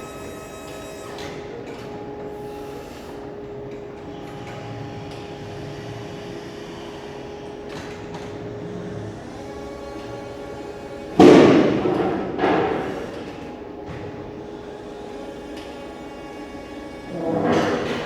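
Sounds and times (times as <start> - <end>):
machine hum with whine: 0.0 - 18.0.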